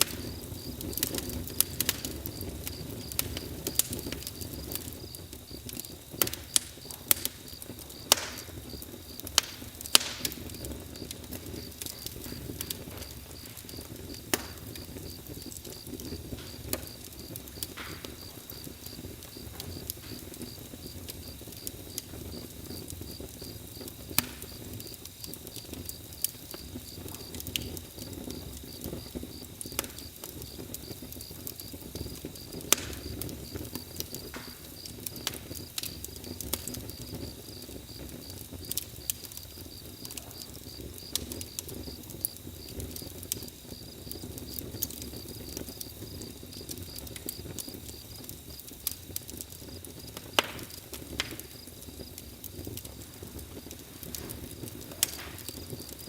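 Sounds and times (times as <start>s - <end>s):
campfire crackling: 0.0s - 56.0s
cricket chirping: 0.0s - 56.0s.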